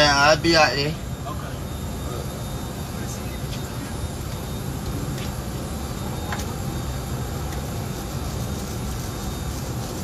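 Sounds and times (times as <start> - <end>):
jet cabin rumble: 0.0 - 10.0.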